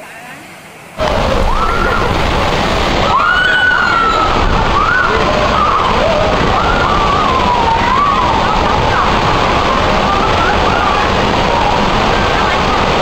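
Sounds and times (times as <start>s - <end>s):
water rushing down a slide: 0.1s - 13.0s
people screaming: 1.0s - 13.0s.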